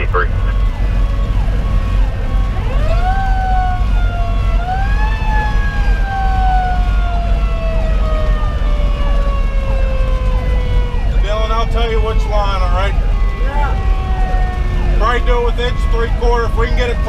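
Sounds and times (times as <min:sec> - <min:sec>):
diesel truck engine rumble: 0:00.0 - 0:17.0
electronic siren sweep: 0:00.0 - 0:17.0
road noise: 0:00.0 - 0:17.0.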